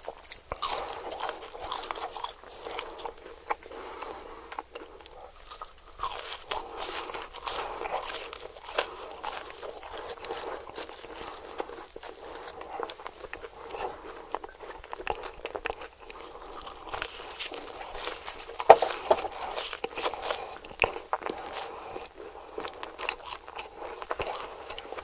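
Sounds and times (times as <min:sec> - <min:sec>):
chewing crispy food: 0:00.0 - 0:25.0.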